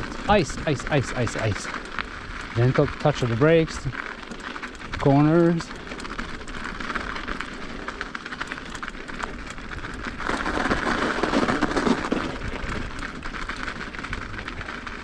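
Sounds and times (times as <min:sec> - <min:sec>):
bike tyres on snowy trail: 0:00.0 - 0:15.0
sharp clicks and rattles: 0:00.0 - 0:15.0.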